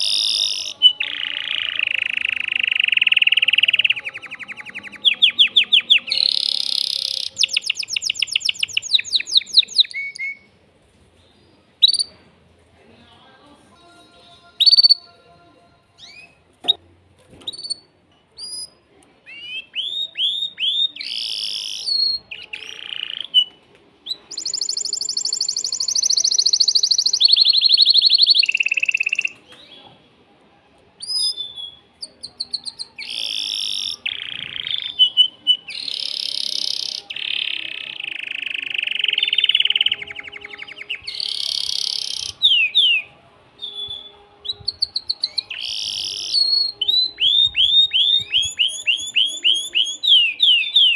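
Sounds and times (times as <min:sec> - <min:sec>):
canary singing: 0:00.0 - 0:10.5, 0:11.3 - 0:12.2, 0:14.0 - 0:16.8, 0:17.5 - 0:29.9, 0:31.0 - 0:50.9.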